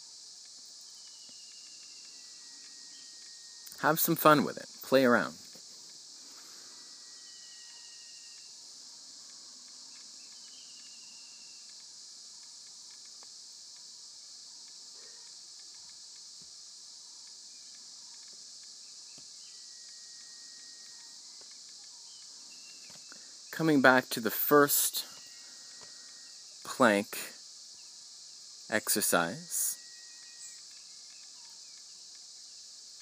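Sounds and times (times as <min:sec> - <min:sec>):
high-pitched insect chorus: 0:00.0 - 0:33.0.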